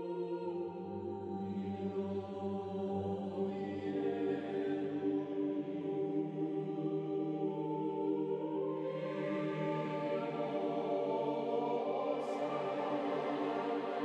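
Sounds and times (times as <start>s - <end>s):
slow ambient choir-like music: 0.0s - 14.0s.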